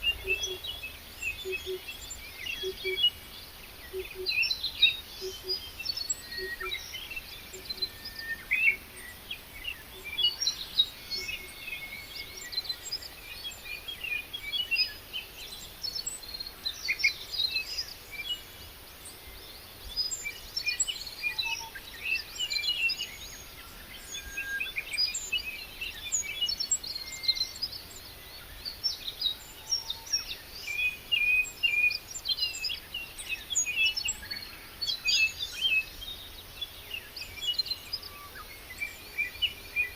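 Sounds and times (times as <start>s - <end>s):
birds chirping and singing: 0.0s - 18.5s, 19.2s - 39.9s.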